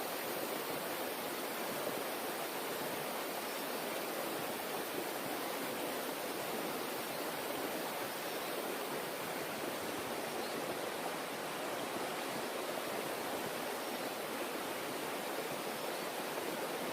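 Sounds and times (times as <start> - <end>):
stream water flowing: 0.0 - 16.9.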